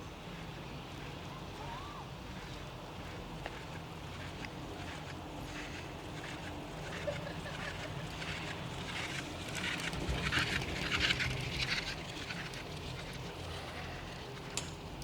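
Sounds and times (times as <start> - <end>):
chairlift low rumble: 0.0 - 15.0.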